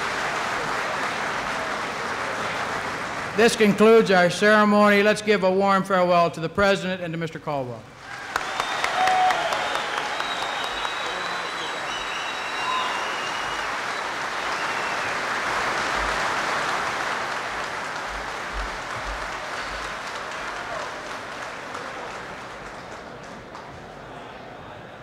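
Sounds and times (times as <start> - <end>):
large crowd applauding: 0.0 - 4.6, 8.0 - 24.8.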